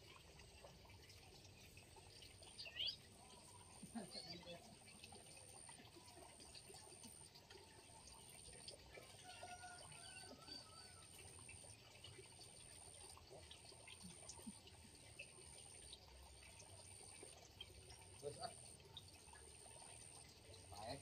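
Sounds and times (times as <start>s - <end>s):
trickle of water: 0.0s - 21.0s.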